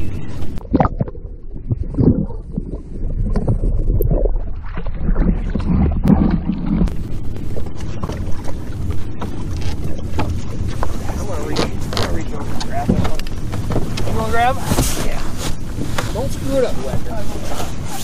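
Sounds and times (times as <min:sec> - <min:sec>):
fish thrashing and splashing: 0:00.0 - 0:16.0
lake water sloshing and lapping: 0:00.0 - 0:18.0
steady low rumble: 0:00.0 - 0:18.0.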